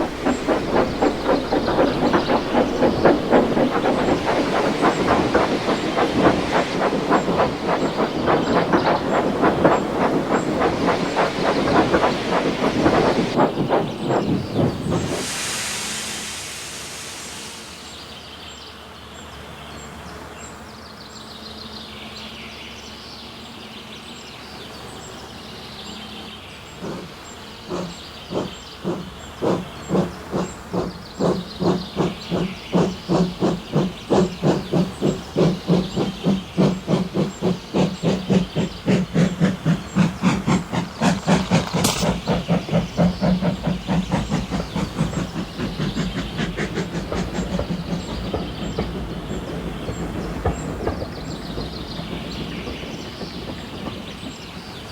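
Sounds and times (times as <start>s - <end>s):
steam hissing: 0.0s - 18.7s, 26.7s - 54.9s
steam locomotive exhaust chuffs: 0.0s - 18.7s, 25.8s - 54.9s.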